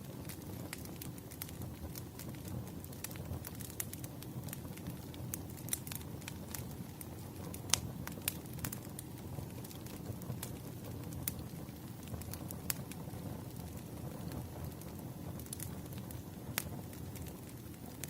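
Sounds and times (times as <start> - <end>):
wood fire crackling: 0.0 - 18.0
fire pops and snaps: 0.1 - 18.0.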